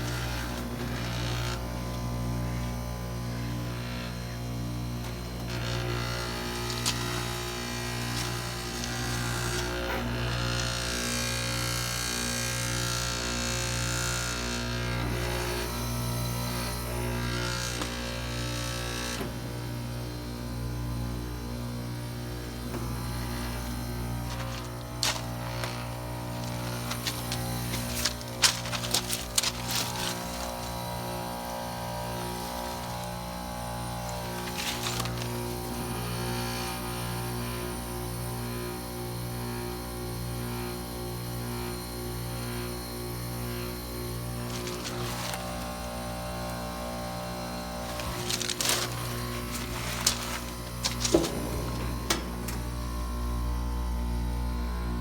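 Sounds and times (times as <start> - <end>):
compressor hum: 0.0 - 55.0.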